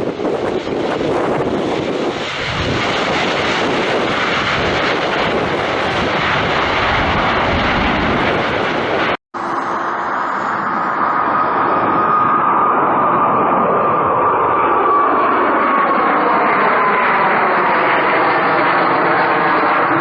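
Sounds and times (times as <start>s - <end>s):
airplane engine roar: 0.0s - 20.0s
steady high whine: 2.5s - 18.7s.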